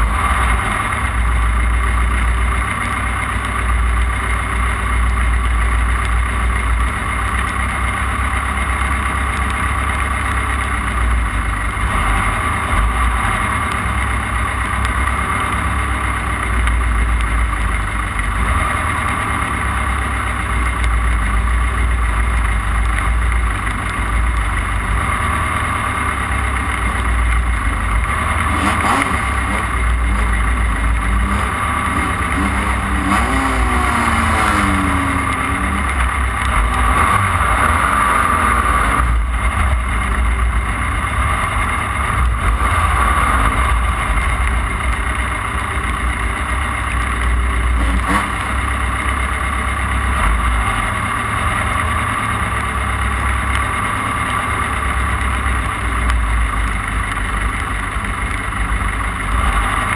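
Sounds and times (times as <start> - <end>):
race car engine revving: 0.0 - 7.6, 8.2 - 59.9.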